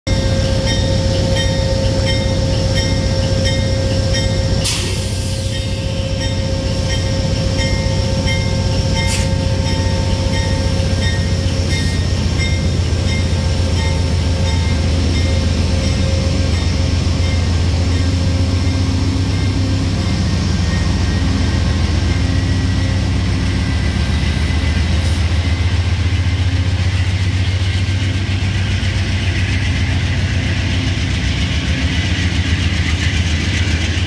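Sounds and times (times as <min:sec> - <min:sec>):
diesel locomotive engine droning: 0:00.0 - 0:34.0
locomotive bell ringing: 0:00.1 - 0:28.8.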